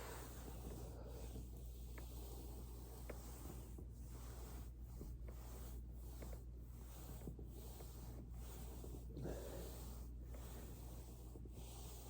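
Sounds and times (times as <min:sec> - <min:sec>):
foam roller rustling: 0:00.0 - 0:12.0.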